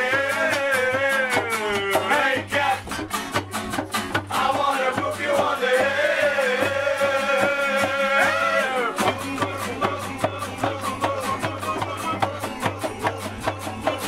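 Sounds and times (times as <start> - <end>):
person singing: 0.0 - 2.9, 4.3 - 14.0
acoustic guitar strumming: 0.0 - 14.0.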